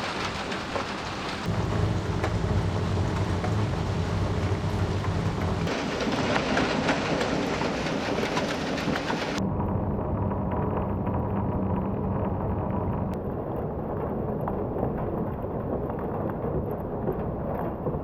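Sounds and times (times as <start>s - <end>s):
steady rain falling: 0.0s - 18.0s
low rumble: 1.4s - 18.0s.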